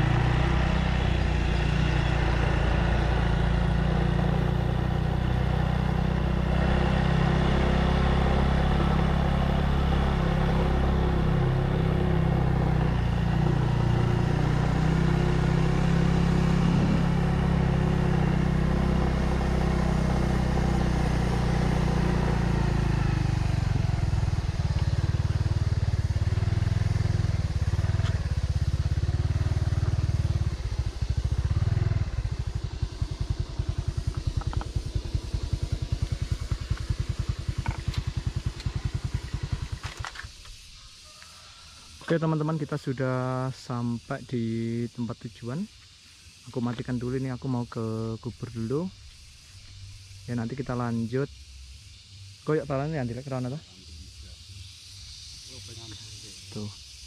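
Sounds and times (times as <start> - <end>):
motorcycle engine running: 0.0 - 41.2, 41.9 - 57.0.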